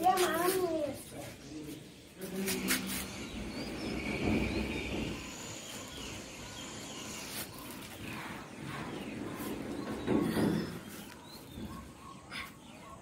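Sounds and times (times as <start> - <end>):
faint bird chirps: 1.5 - 13.0.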